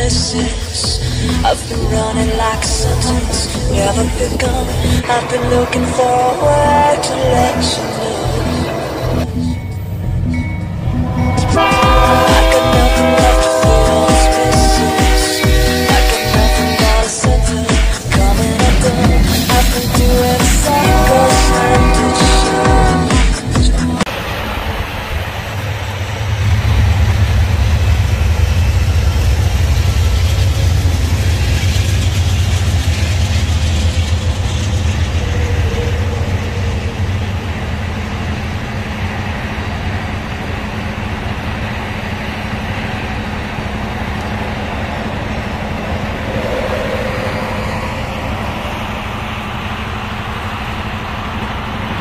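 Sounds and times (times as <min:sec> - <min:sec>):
passenger train passing: 0:00.0 - 0:52.0.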